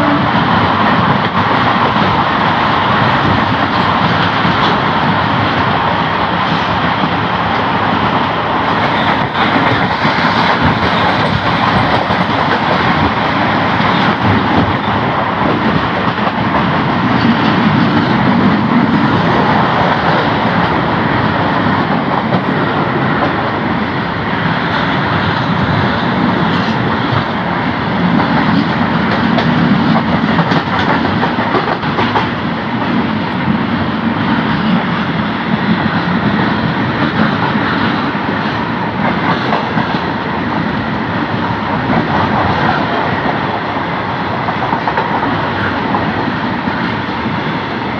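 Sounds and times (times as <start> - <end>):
rail clicks: 0.0 - 47.9
train wheel and wind rush: 0.0 - 47.9.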